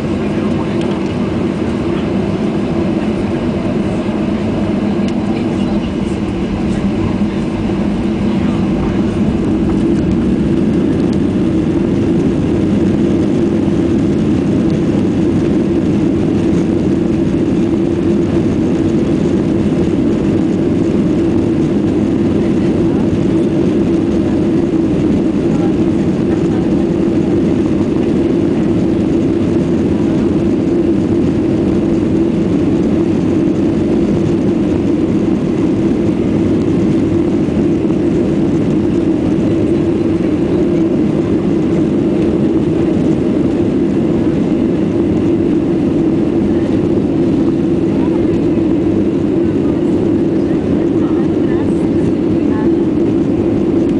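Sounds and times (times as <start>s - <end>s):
aircraft engines deep hum: 0.0s - 53.9s.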